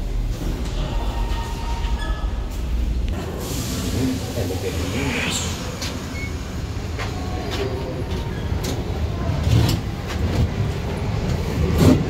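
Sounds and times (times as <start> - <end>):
elevator car low rumble: 0.0 - 12.0.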